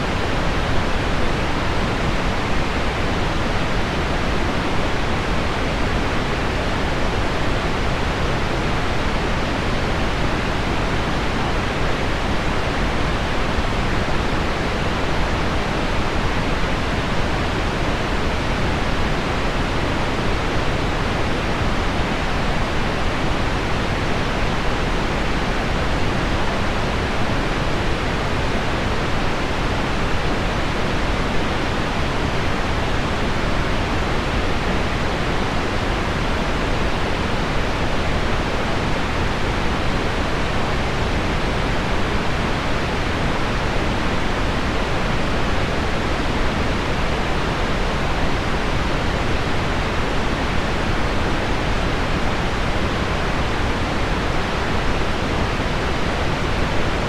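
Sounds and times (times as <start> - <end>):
pink noise: 0.0 - 57.0.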